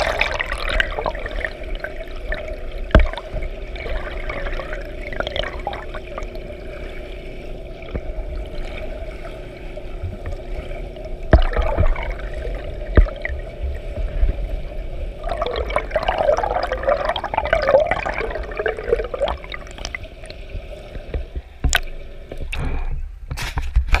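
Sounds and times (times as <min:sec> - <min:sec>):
water splashing from swimming: 0:00.0 - 0:22.9
steady hum: 0:00.0 - 0:24.0.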